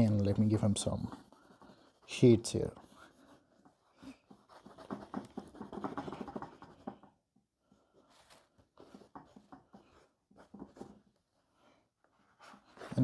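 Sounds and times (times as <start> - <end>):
drawing stick scratching on paper: 0.0 - 7.2, 8.0 - 11.4.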